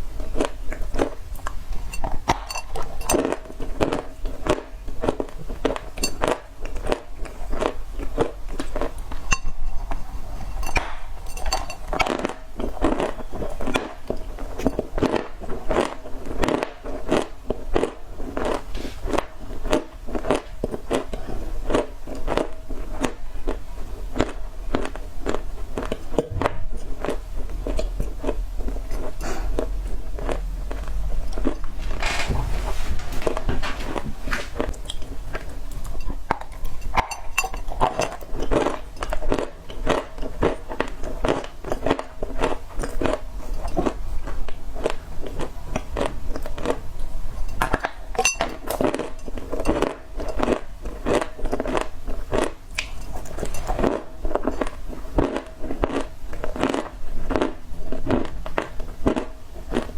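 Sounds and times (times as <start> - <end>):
dry clay crunching when chewed: 0.0 - 32.1, 33.2 - 59.9.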